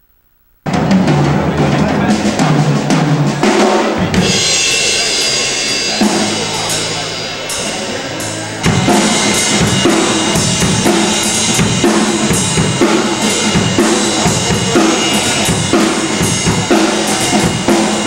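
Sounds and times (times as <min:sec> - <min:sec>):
drum kit playing loudly: 0:00.6 - 0:18.0.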